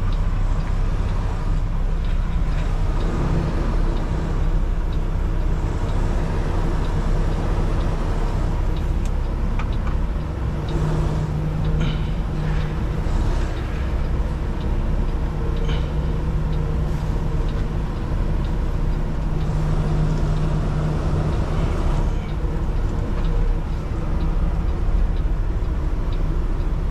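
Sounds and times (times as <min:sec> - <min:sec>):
truck diesel engine running: 0:00.0 - 0:26.9.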